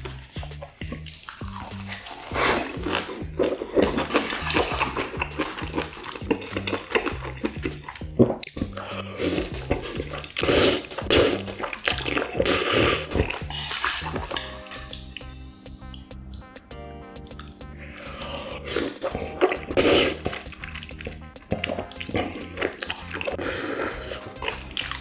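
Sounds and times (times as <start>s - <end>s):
background music with low beat: 0.0s - 25.0s
wet chewing and smacking: 0.0s - 25.0s.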